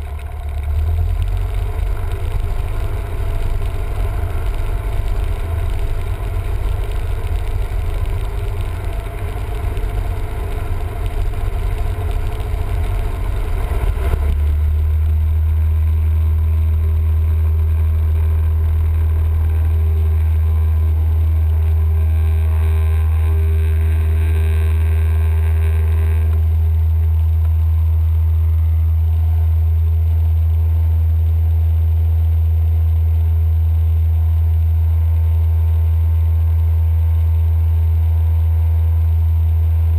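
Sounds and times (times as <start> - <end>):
small plane engine droning in cabin: 0.0 - 39.9.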